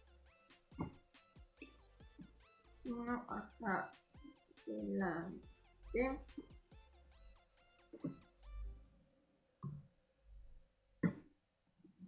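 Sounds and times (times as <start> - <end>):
quiet background music: 0.0 - 9.8.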